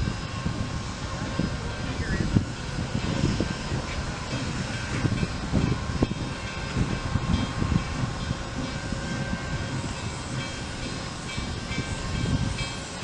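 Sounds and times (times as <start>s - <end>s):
steam locomotive rumbling and chuffing: 0.0s - 13.0s.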